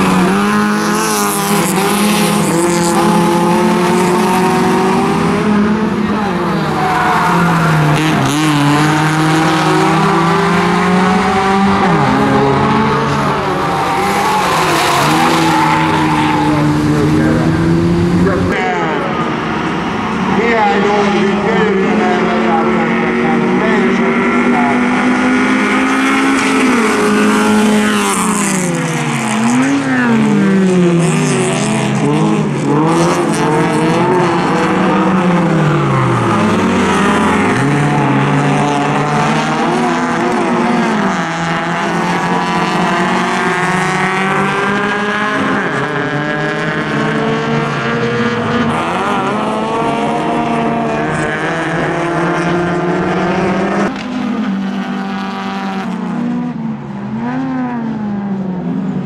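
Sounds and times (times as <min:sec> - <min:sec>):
racing car engines revving: 0:00.0 - 0:59.0.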